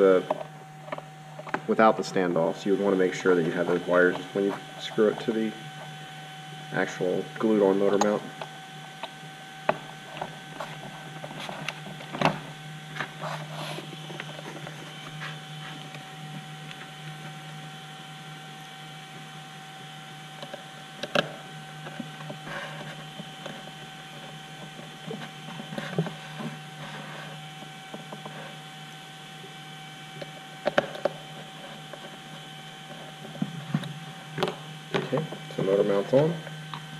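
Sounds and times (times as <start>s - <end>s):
electrical hum: 0.0s - 36.9s.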